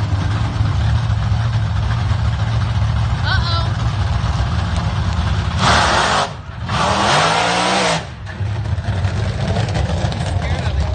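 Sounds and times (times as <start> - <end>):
low rumble of idling engines: 0.0 - 6.8, 8.0 - 10.9.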